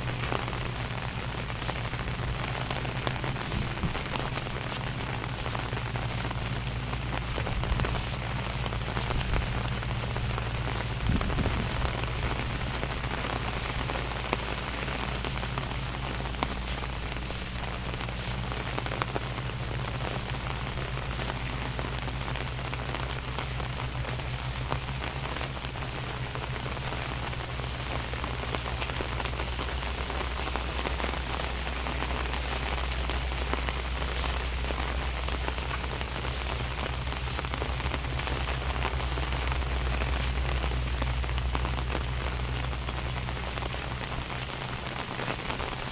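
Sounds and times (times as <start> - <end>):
rain falling: 0.0 - 45.9
steady low hum: 0.0 - 45.9.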